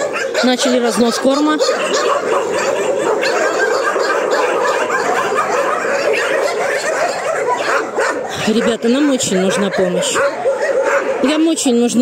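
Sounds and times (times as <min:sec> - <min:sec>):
many dogs barking and yelping: 0:00.0 - 0:12.0.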